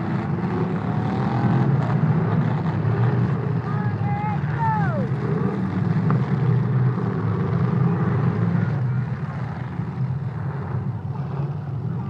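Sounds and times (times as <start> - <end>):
car engines droning: 0.0 - 12.0.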